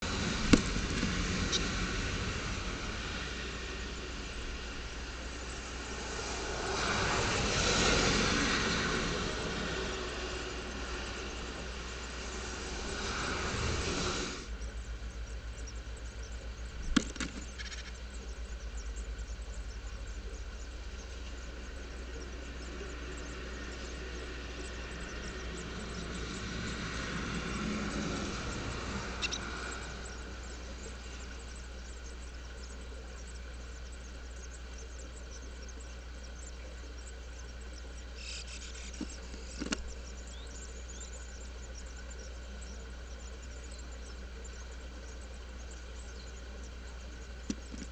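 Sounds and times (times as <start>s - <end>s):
low electrical hum: 0.0s - 47.9s
rain hiss: 0.0s - 47.9s.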